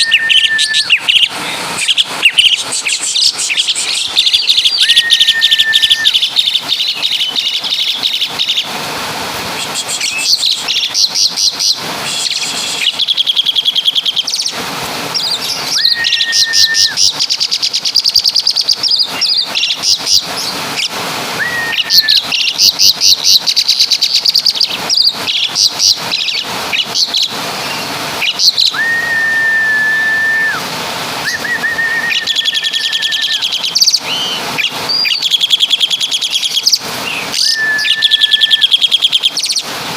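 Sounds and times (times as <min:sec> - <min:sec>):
starling singing: 0:00.0 - 0:08.8, 0:09.6 - 0:30.6, 0:31.2 - 0:39.7.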